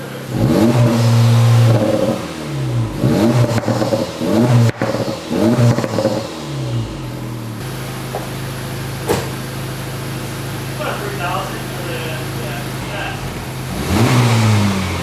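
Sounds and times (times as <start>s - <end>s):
car engine idling: 0.0s - 15.0s
car engine revving: 0.0s - 15.0s.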